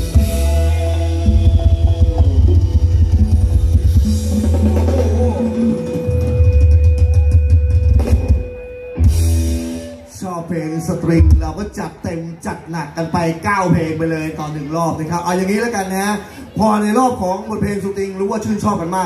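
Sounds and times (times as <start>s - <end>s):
live band through loud pa: 0.0s - 19.0s.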